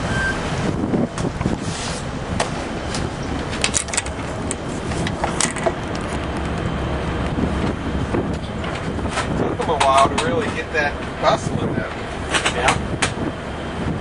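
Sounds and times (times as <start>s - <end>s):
diesel engines rumbling: 0.0s - 14.0s
wind noise on microphone: 0.0s - 14.0s.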